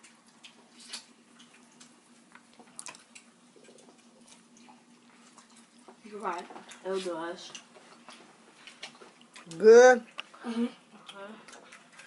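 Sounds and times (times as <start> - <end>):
faint chewing clicks and smacks: 0.0 - 12.0.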